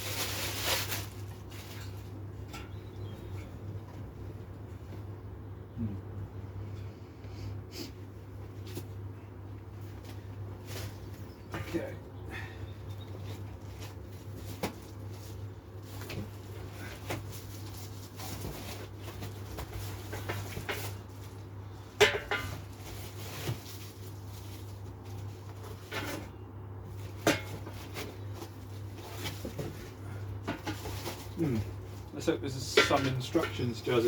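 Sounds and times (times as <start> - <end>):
steady low hum: 0.1 - 34.0.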